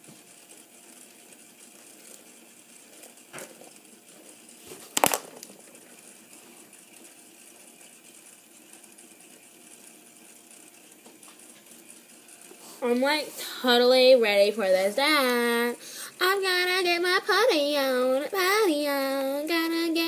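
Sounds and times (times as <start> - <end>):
low room hiss: 0.0 - 20.0.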